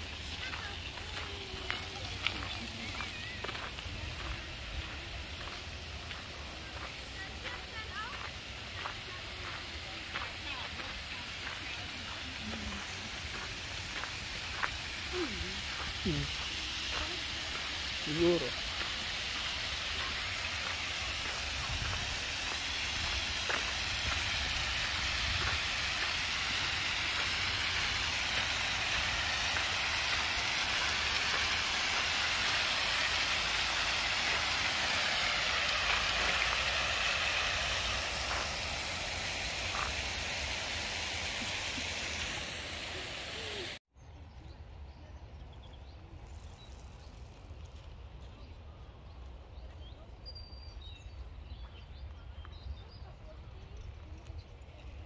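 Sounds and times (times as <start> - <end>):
fountain jets splashing: 0.0 - 43.8, 51.1 - 55.0
quiet outdoor ambience: 0.0 - 55.0.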